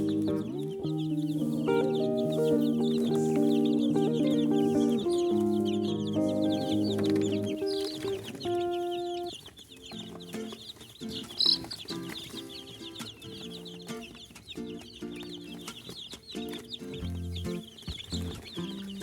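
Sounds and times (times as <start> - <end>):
background music with held notes: 0.0 - 19.0
chicks peeping: 0.0 - 19.0.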